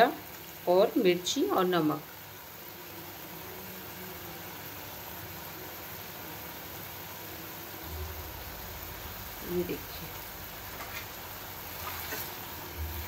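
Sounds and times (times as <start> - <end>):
vegetables cooking in gravy hiss: 0.0 - 13.0.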